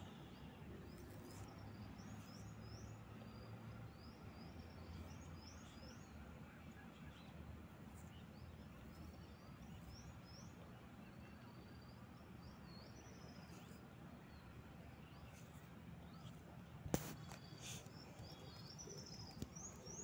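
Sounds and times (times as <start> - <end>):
distant birds chirping: 0.0 - 20.0
faint low background hum: 0.0 - 20.0.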